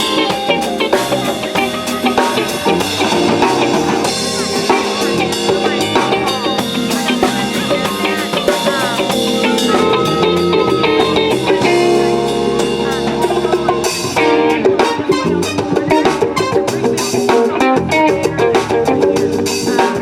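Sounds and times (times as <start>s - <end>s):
bass lines: 0.0s - 20.0s
funk band playing: 0.0s - 20.0s
sliding notes: 0.0s - 20.0s.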